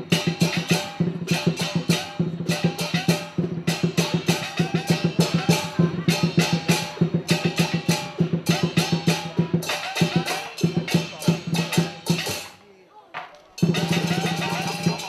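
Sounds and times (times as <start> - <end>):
fast drum beat: 0.0 - 12.6, 13.2 - 15.0.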